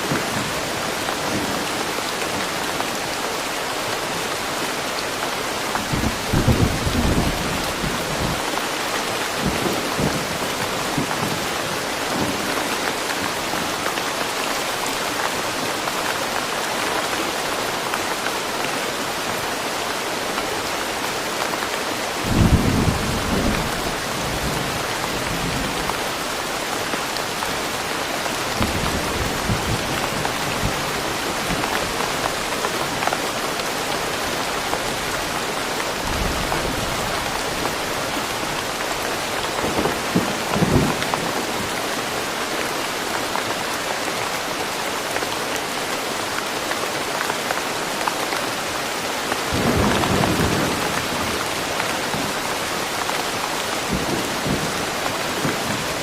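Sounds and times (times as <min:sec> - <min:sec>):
steady rain in woodland: 0:00.0 - 0:56.0.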